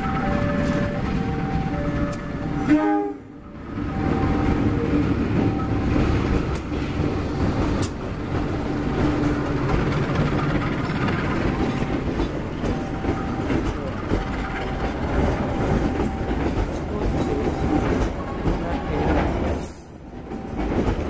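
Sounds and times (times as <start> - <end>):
coaches rolling on rails: 0.0 - 21.0
locomotive engine rumbling: 0.0 - 21.0.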